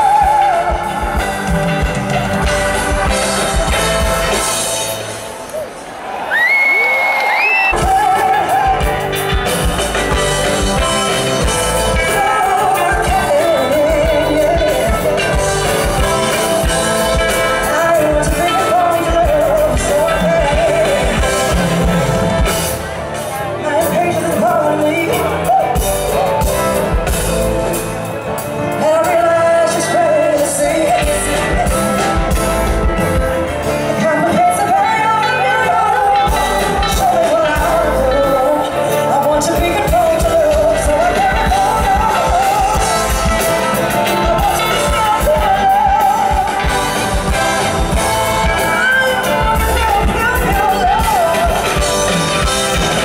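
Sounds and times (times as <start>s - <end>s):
woman singing: 0.0s - 1.9s, 7.7s - 9.6s, 10.5s - 22.2s, 23.6s - 26.2s, 28.6s - 53.0s
live band playing: 0.0s - 53.0s.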